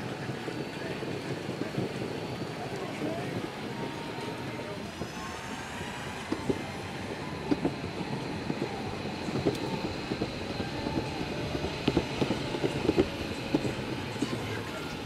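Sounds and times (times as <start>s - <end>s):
skateboard wheels rolling on pavement: 0.0s - 15.0s.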